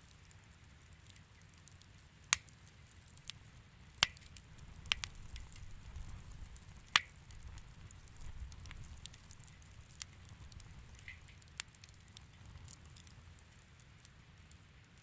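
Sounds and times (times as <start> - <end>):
low rumble of flame: 0.0 - 15.0
wood fire crackling: 0.0 - 15.0.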